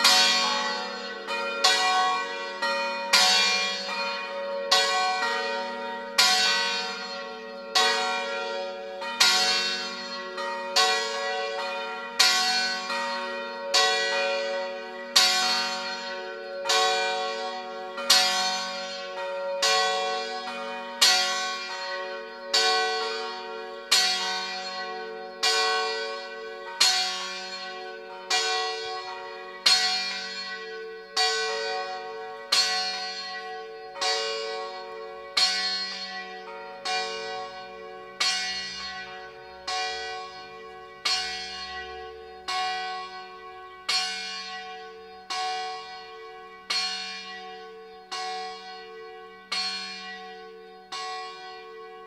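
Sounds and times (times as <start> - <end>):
church bells pealing: 0.0 - 52.0.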